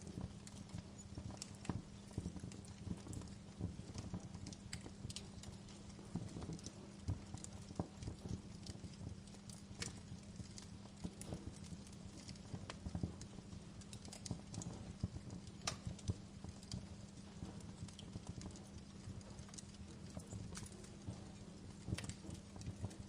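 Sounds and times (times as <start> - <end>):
wood fire crackling in a fireplace: 0.0 - 23.0.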